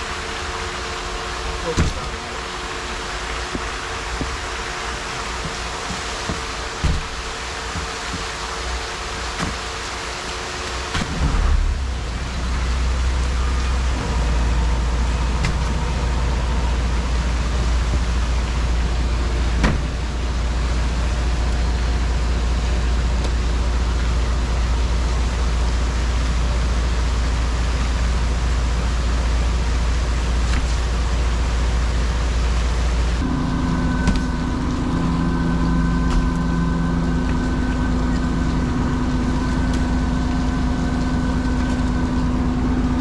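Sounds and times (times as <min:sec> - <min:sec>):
machinery low rumble: 0:00.0 - 0:43.0.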